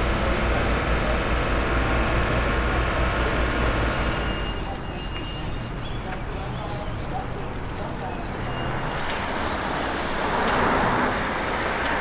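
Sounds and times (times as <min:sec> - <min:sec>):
low pulsing engine drone: 0:00.0 - 0:11.8
traffic rumble: 0:00.0 - 0:12.0.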